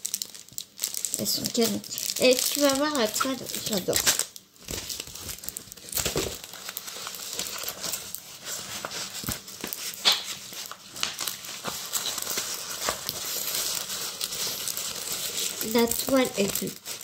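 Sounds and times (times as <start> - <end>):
plastic film crinkling: 0.0 - 17.0.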